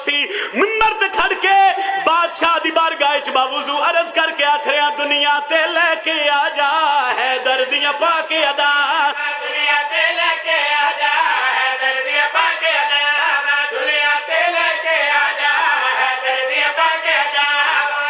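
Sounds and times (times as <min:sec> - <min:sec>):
men singing devotional chant: 0:00.0 - 0:18.0.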